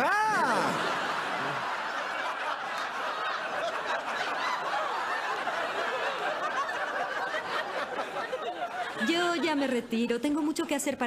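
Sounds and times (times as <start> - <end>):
studio audience laughing: 0.2 - 10.2.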